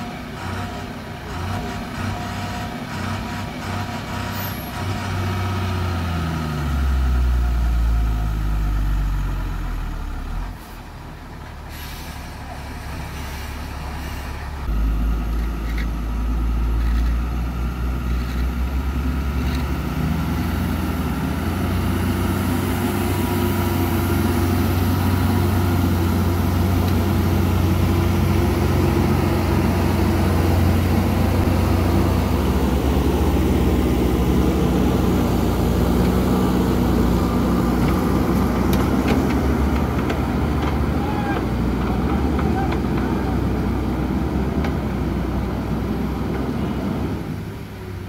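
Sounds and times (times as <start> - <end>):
heavy diesel engines under load: 0.0 - 48.0.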